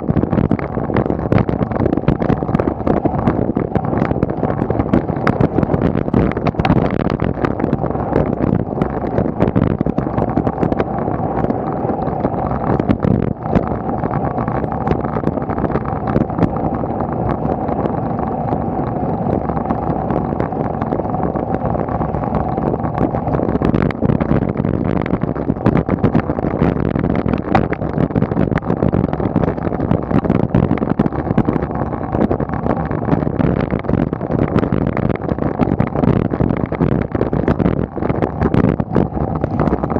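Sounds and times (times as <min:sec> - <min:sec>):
tyre and road rumble: 0:00.0 - 0:39.9
wind buffeting microphone: 0:00.0 - 0:39.9.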